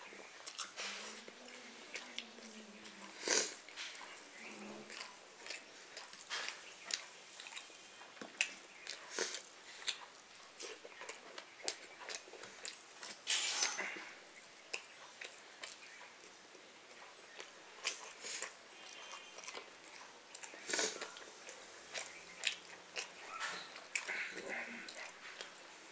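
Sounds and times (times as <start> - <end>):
person chewing with wet smacks: 0.0 - 25.9.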